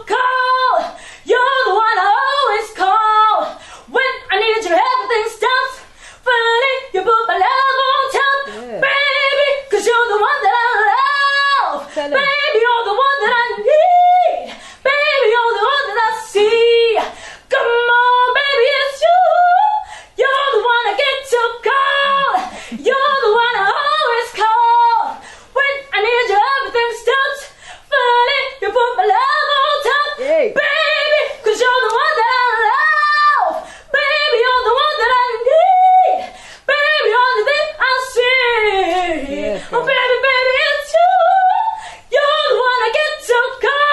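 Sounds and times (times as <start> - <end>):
woman singing unaccompanied: 0.0 - 43.9.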